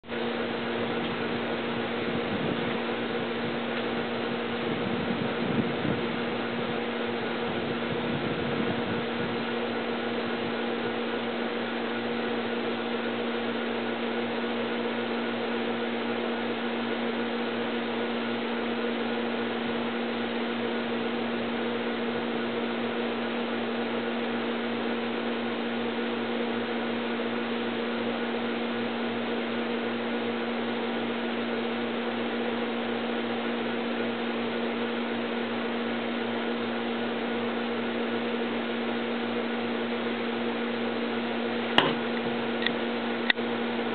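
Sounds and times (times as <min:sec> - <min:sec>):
steady machine hum: 0:00.0 - 0:43.9.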